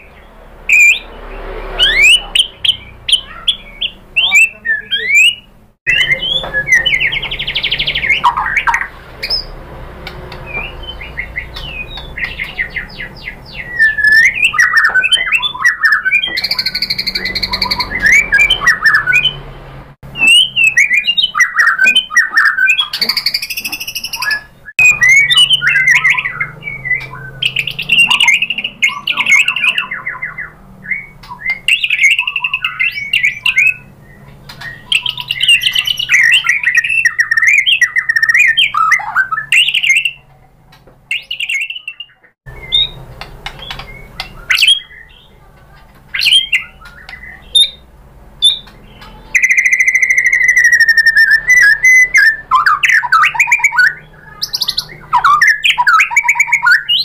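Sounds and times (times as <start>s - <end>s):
bird singing whistles and trills: 0.0s - 9.5s, 10.4s - 19.4s, 20.1s - 40.2s, 41.1s - 45.3s, 46.1s - 47.8s, 48.4s - 57.0s.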